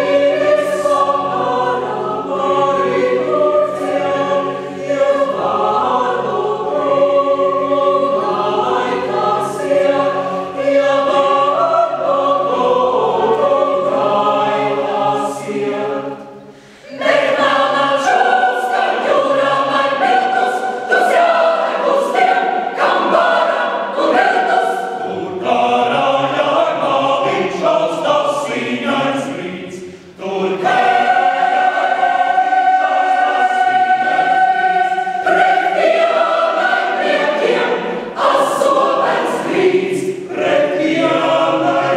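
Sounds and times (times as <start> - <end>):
mixed choir singing: 0.0 - 41.9.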